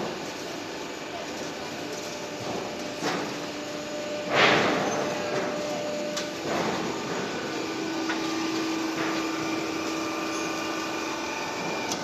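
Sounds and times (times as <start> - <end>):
machine mechanical hum: 0.0 - 12.0.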